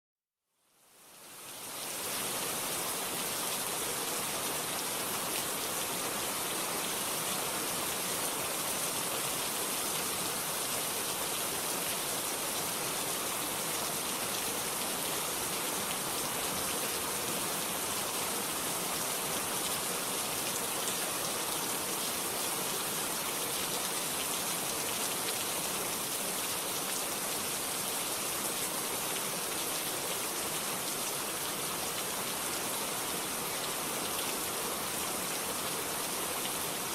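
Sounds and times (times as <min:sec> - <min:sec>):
steady rain falling: 0:00.6 - 0:36.9.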